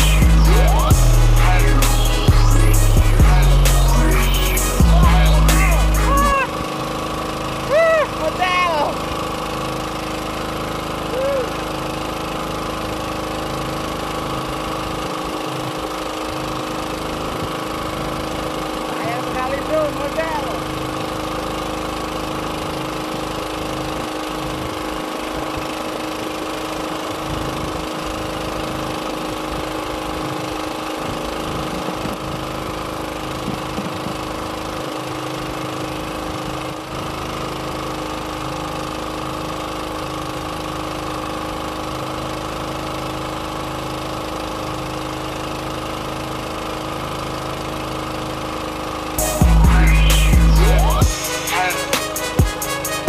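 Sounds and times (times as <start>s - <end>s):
boat engine humming: 0.0s - 53.0s.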